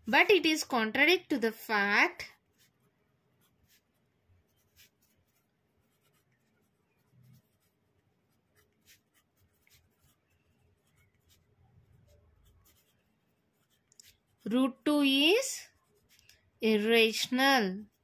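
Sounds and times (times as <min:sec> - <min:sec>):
pen scratching on paper: 0:00.3 - 0:18.0.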